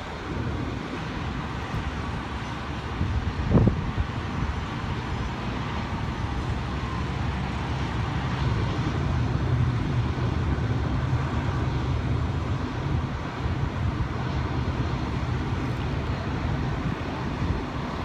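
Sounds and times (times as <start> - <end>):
jet engines droning: 0.0 - 18.0
wind buffeting microphone: 0.0 - 18.0.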